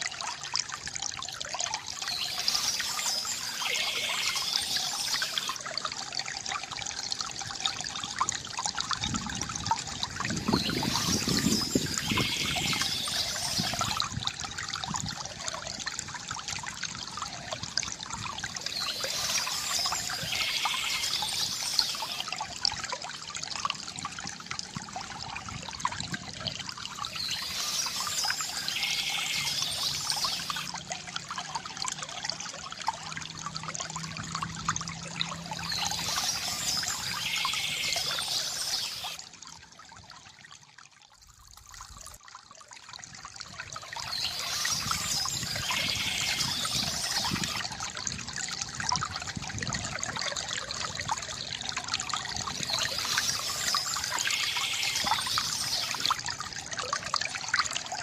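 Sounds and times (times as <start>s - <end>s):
water gurgling from fountain: 0.0s - 58.0s.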